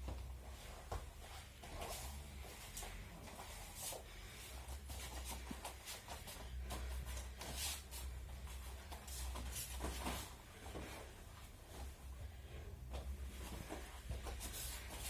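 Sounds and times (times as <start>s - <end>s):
bare feet shuffling on mats: 0.0s - 15.0s
low steady hum: 0.0s - 15.0s
uniforms rustling: 0.0s - 15.0s.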